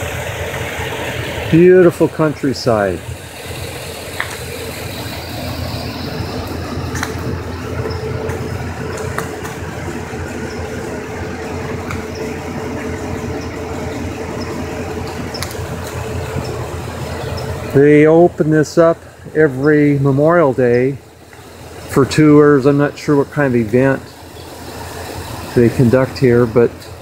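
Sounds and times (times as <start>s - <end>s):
constant tone: 0.0s - 27.0s
vehicle engine idling: 0.0s - 27.0s.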